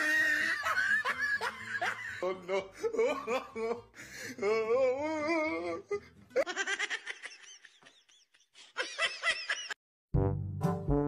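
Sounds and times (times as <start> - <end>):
person laughing: 0.0 - 9.8.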